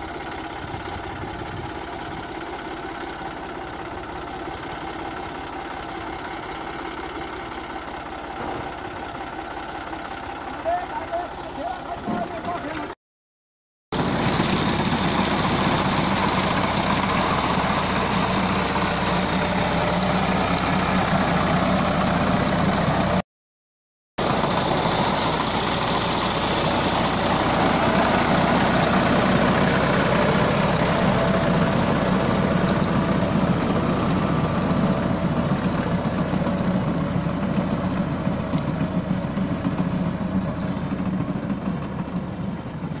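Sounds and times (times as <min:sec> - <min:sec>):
tractor diesel engine running: 0:00.0 - 0:13.0, 0:13.9 - 0:23.2, 0:24.2 - 0:43.0.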